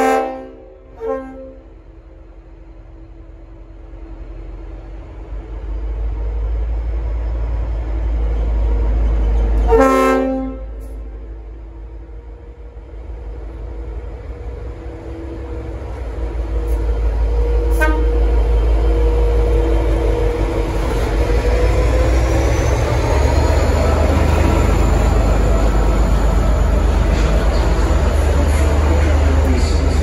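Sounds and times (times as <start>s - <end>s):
diesel locomotive passing: 0.0s - 30.0s.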